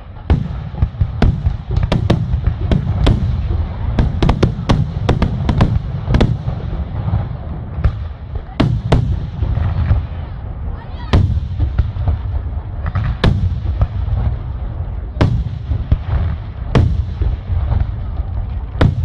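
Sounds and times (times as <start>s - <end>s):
continuous low rumble: 0.0s - 19.0s
fireworks bangs: 0.0s - 19.0s.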